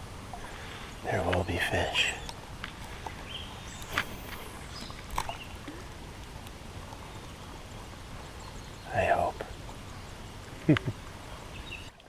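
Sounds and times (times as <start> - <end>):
creekside ambience hiss: 0.0 - 12.0.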